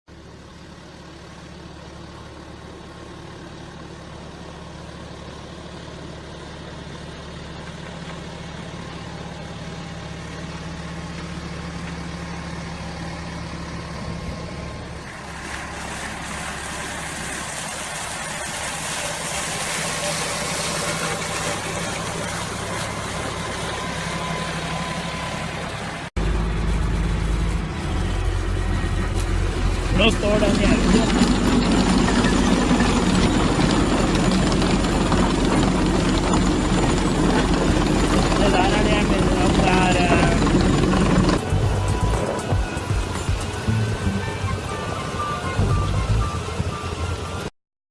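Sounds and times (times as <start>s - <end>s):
heavy machinery diesel engine: 0.1s - 47.5s.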